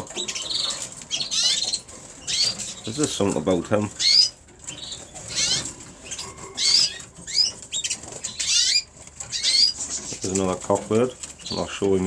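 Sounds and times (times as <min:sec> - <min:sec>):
canaries singing warbling trills: 0:00.0 - 0:12.0.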